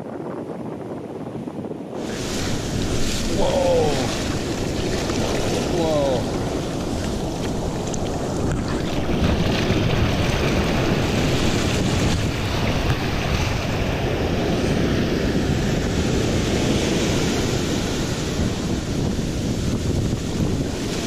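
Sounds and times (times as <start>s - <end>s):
ocean surf washing: 0.0s - 21.0s
wind noise on microphone: 0.0s - 21.0s.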